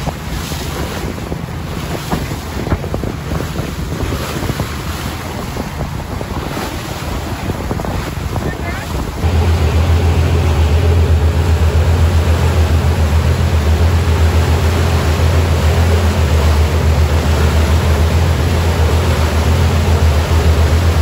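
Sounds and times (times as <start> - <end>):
boat engine droning: 0.0 - 21.0
churning boat wake: 0.0 - 21.0.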